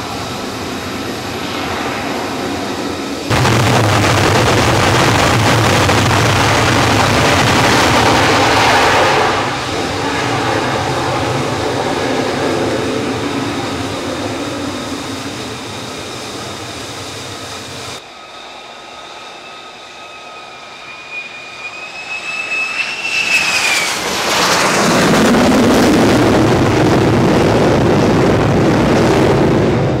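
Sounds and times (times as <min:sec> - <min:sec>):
jet engine roar: 0:00.0 - 0:30.0
jet whine with high tone: 0:00.0 - 0:30.0.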